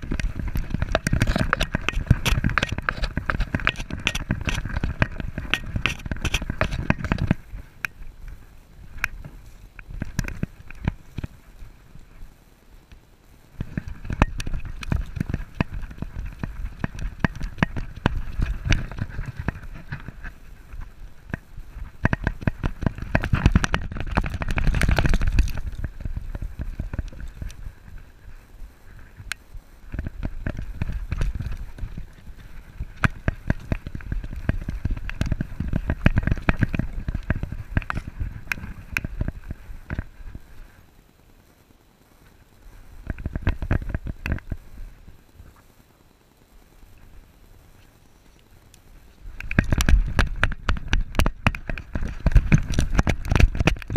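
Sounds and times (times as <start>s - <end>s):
low wind rumble: 0.0s - 53.9s.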